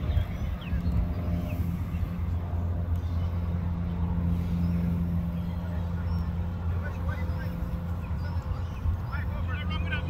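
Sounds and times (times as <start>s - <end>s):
low engine drone of vehicles: 0.0s - 10.0s.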